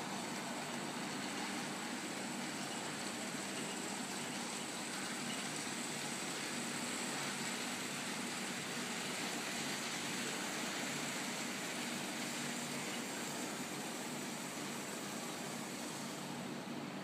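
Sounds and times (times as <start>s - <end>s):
model train motors whirring: 0.0s - 16.5s.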